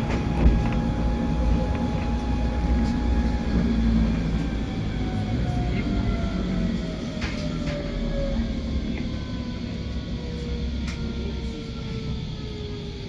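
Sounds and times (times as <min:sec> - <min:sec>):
railway car rumble and whine: 0:00.0 - 0:13.0.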